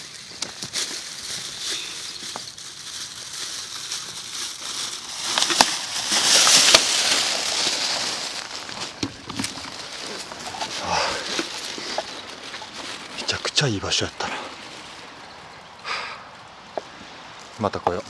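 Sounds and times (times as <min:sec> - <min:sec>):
rustling and crinkling: 0:00.0 - 0:18.0.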